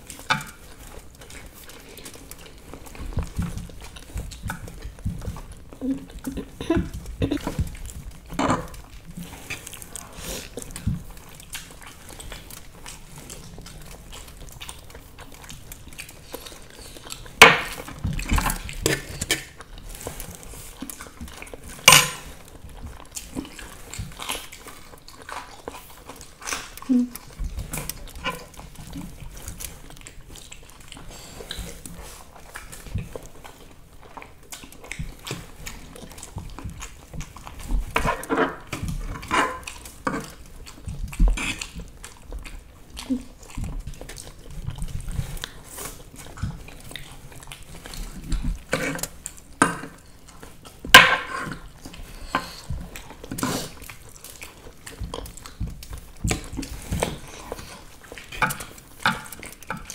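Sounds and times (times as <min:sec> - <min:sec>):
people chewing noodles: 0:00.0 - 0:59.9.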